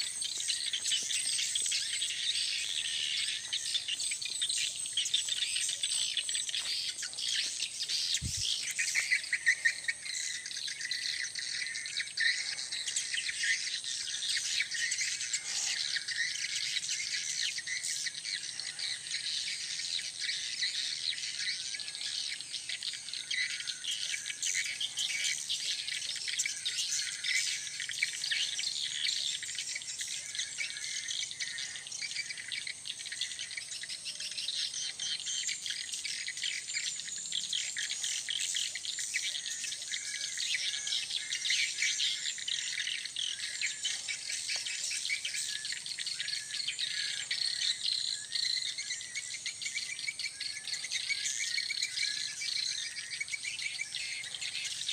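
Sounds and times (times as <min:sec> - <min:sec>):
birds chirping and trilling: 0:00.0 - 0:54.9
insects chirping: 0:00.0 - 0:54.9.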